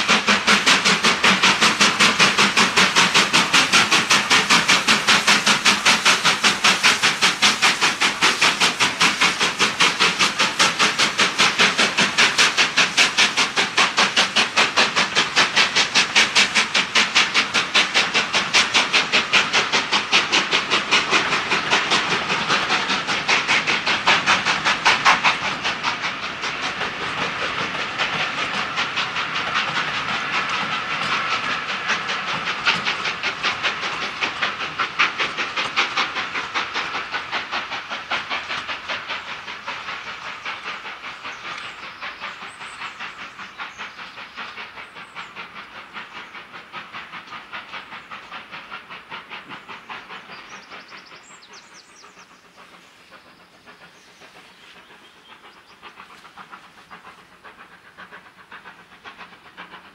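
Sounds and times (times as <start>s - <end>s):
steam locomotive exhaust beating: 0.0s - 59.9s.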